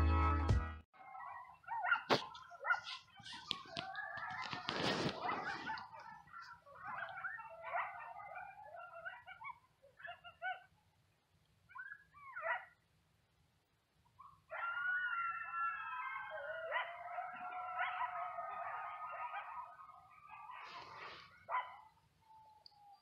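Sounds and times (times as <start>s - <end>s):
coyotes howling: 1.0s - 10.8s, 11.8s - 12.8s, 14.2s - 23.0s
coyotes yipping: 1.0s - 10.8s, 11.7s - 12.8s, 14.2s - 23.0s.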